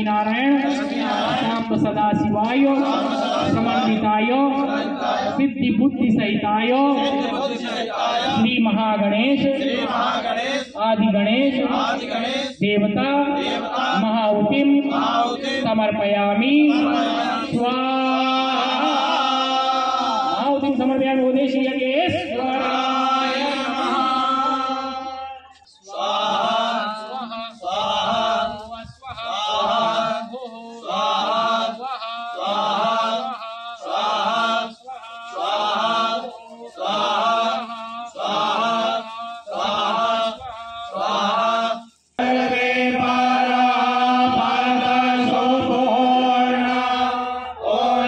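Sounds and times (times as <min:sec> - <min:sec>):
man chanting: 0:00.0 - 0:48.0.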